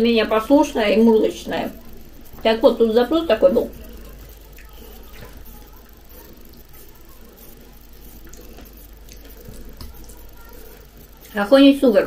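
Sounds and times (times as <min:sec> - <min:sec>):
soft squishing: 0:00.0 - 0:12.0.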